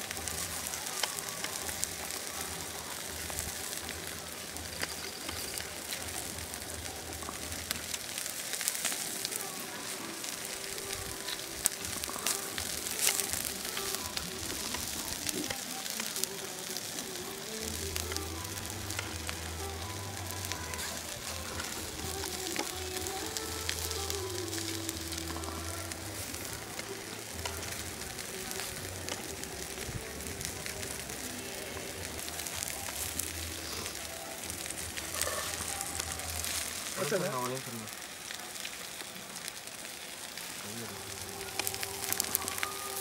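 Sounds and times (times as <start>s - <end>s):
chicken sizzling over wood fire: 0.0s - 43.0s
slow melodic background music: 0.0s - 43.0s.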